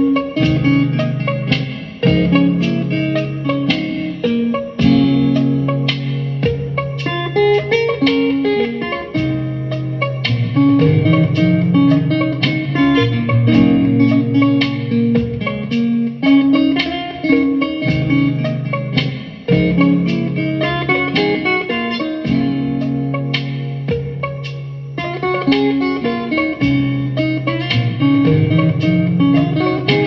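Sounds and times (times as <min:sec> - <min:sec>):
low bass notes: 0:00.0 - 0:30.0
plucked guitar notes: 0:00.0 - 0:30.0.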